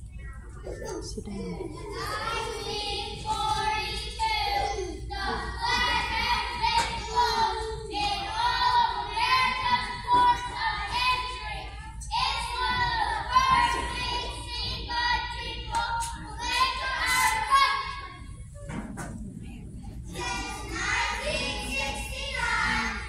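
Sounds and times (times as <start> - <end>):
children's choir singing: 1.7 - 18.3, 20.0 - 23.0.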